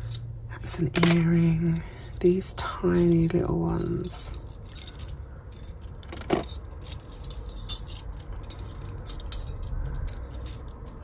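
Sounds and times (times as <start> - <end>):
metal jewellery clinking: 0.0 - 11.0.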